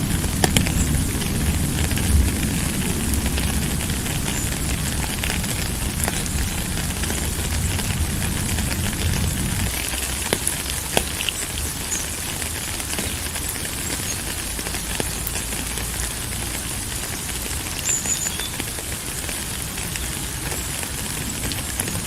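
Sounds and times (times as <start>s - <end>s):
sharp drip ticks: 0.0s - 22.0s
steady rain falling: 0.0s - 22.0s.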